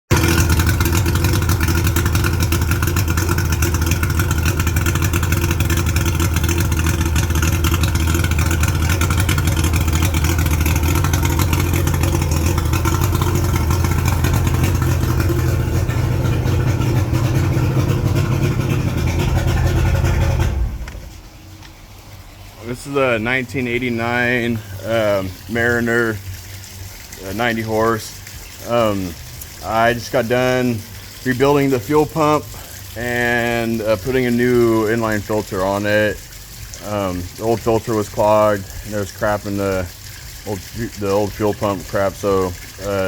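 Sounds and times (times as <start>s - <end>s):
outboard motor running: 0.1s - 43.0s.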